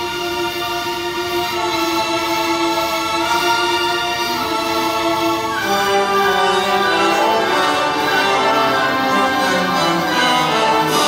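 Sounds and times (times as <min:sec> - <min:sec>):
orchestra playing sustained chords: 0:00.0 - 0:11.0.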